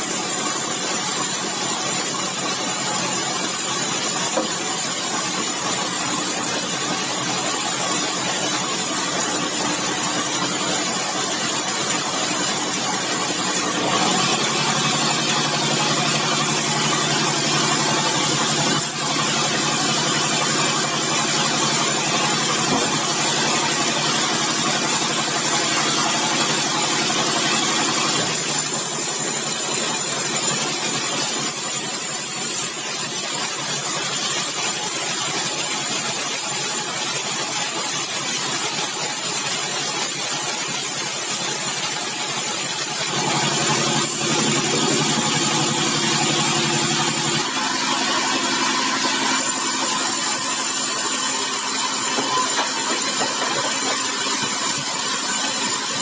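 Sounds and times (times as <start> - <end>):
sawmill machinery hum: 0.0 - 35.0, 35.6 - 56.0.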